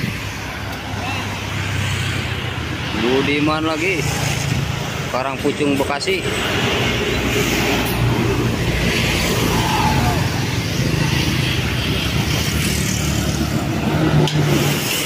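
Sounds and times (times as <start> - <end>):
large vehicle engine hum: 0.0 - 15.0
tyre and traffic noise: 0.0 - 15.0.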